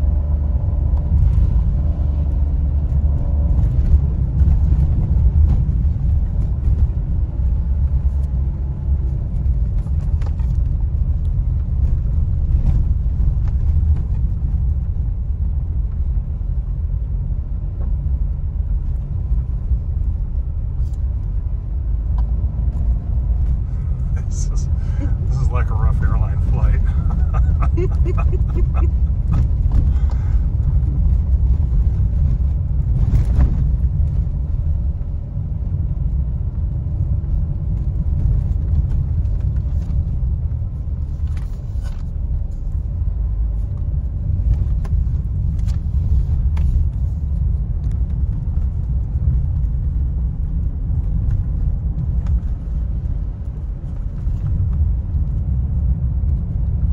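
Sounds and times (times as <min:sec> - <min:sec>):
tyres rumbling on rough road: 0:00.0 - 0:56.9.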